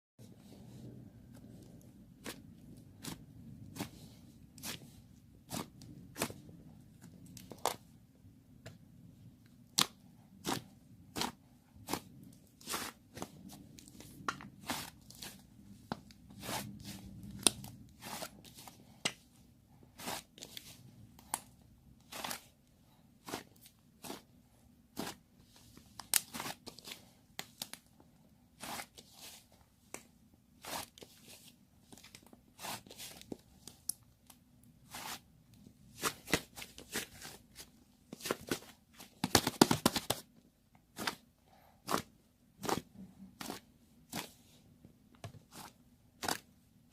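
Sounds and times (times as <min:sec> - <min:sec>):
low steady hum: 0:00.2 - 0:46.9.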